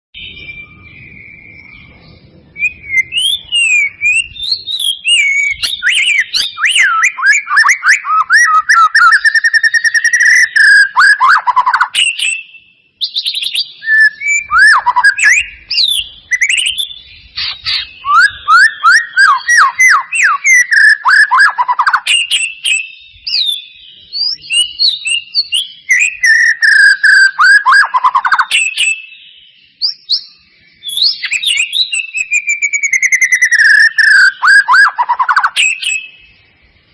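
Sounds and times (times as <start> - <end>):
bird song whistled phrases: 0.1 - 36.9.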